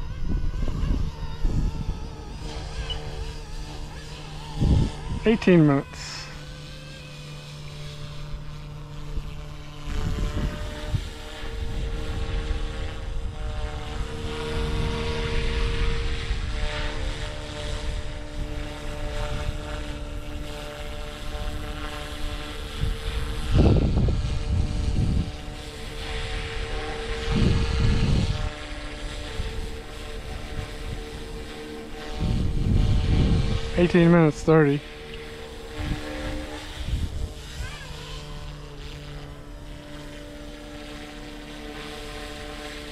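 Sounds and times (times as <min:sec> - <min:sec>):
wind rumbling on microphone: 0:00.0 - 0:06.7, 0:07.7 - 0:42.9
rc helicopter motor whine: 0:00.0 - 0:42.9.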